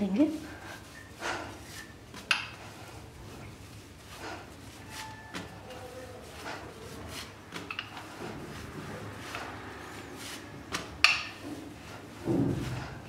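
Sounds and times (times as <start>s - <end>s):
rolling pin rolling dough: 0.0s - 13.0s.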